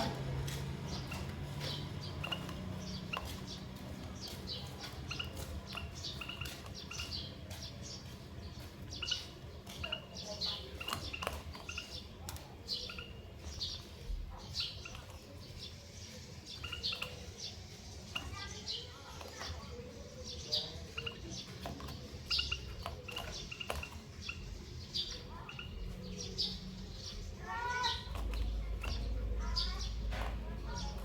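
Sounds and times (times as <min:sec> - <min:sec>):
finches chirping: 0:00.0 - 0:31.0.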